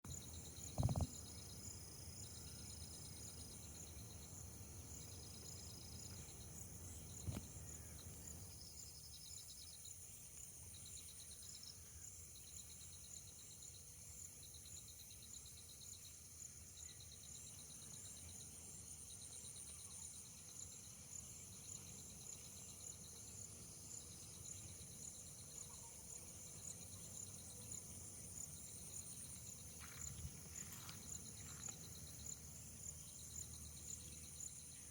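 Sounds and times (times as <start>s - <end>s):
high-pitched insect whine: 0.1s - 34.9s
rapid insect chirps: 0.1s - 34.9s.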